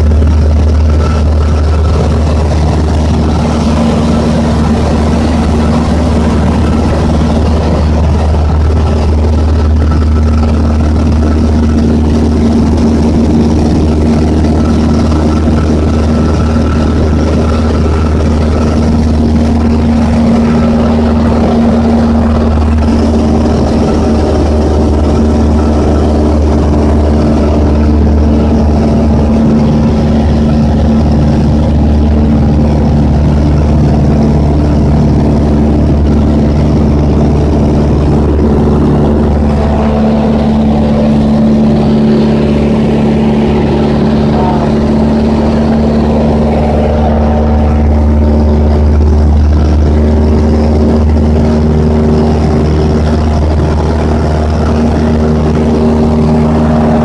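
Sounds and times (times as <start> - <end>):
airplane engine drone in cabin: 0.0 - 57.0.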